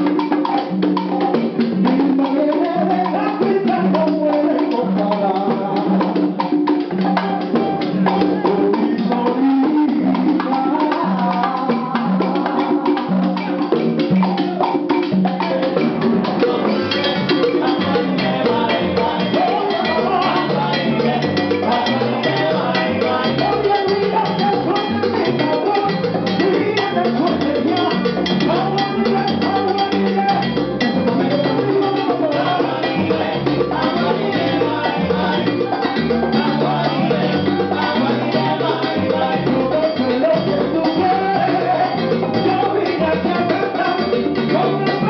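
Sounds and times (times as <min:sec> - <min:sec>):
congas: 0:00.0 - 0:45.0
salsa band playing: 0:00.0 - 0:45.0.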